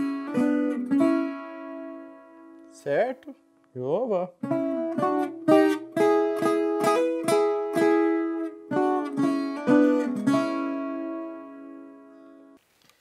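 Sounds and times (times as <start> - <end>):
plucked guitar melody: 0.0 - 3.8, 4.4 - 12.6.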